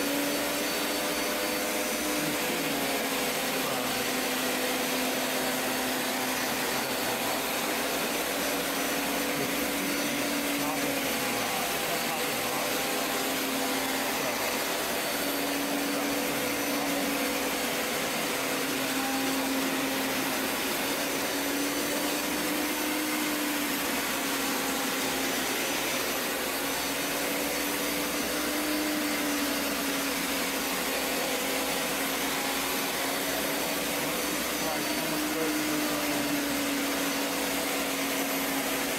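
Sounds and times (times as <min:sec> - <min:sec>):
carpet cleaner motor running: 0:00.0 - 0:38.9.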